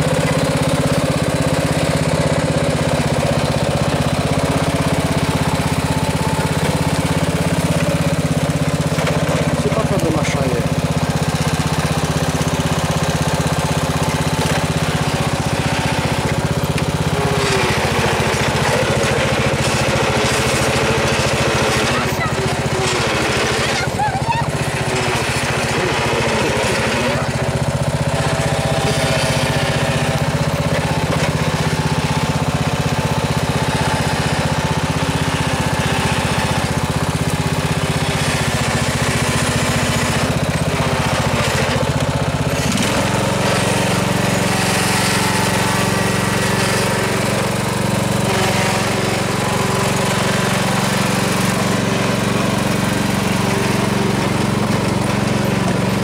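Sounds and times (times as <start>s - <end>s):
lawn tractor engine running: 0.0s - 56.0s.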